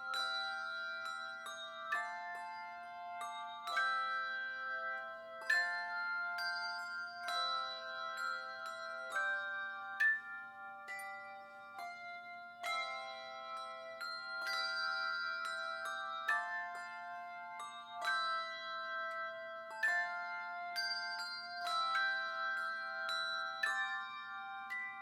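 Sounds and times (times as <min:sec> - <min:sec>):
slow music of ringing notes: 0:00.0 - 0:25.0.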